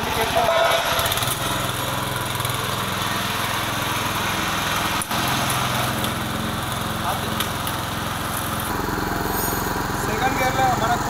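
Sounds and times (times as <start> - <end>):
petrol engine running: 0.0 - 11.0.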